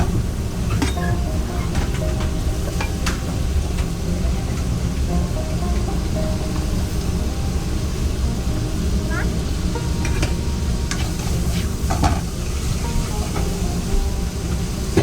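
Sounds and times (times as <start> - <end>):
utensils knocking against pans: 0.0 - 7.6, 8.9 - 15.0
low rumble: 0.0 - 15.0
food sizzling in a pan: 0.1 - 15.0.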